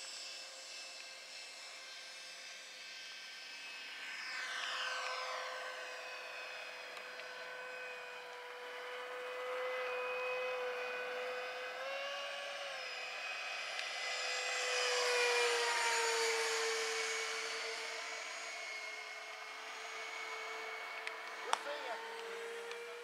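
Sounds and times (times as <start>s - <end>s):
model jet fan whining: 0.0s - 23.0s.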